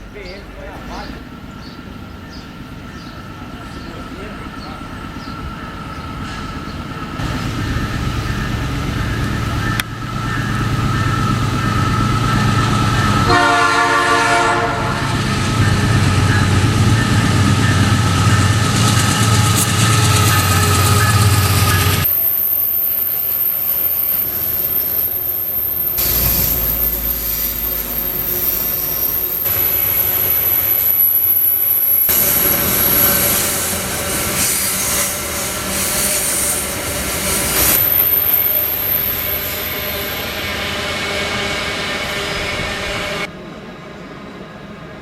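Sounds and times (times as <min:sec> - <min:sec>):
wheels squealing on rails: 0:00.0 - 0:43.3
train wagons rolling rumble: 0:00.0 - 0:45.0.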